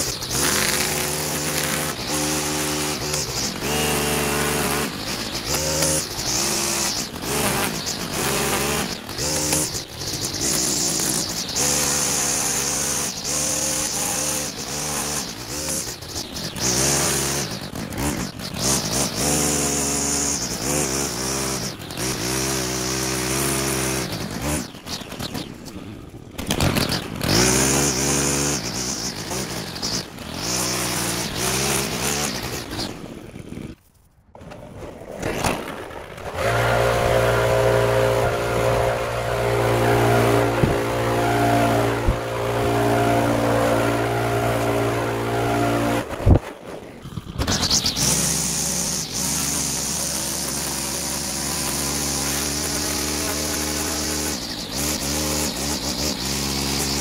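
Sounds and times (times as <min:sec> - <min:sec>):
small petrol engines revving: 0:00.0 - 0:57.0.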